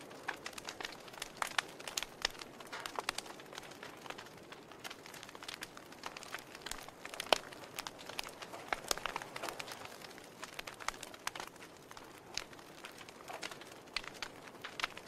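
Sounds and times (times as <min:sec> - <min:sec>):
soft steady hiss: 0:00.0 - 0:15.0
wood fire crackling and popping: 0:00.0 - 0:15.0.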